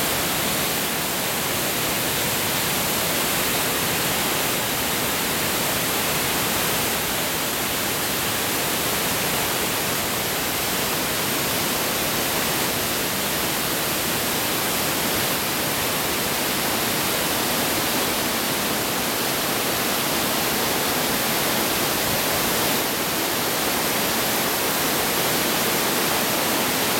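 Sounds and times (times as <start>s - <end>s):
waterfall rushing over rocks: 0.0s - 26.9s.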